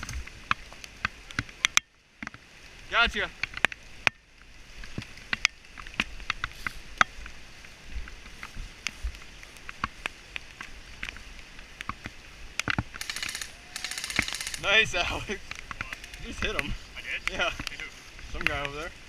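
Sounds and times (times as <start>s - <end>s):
sharp ticks and snaps: 0.0s - 18.9s
rain hissing: 0.0s - 19.0s.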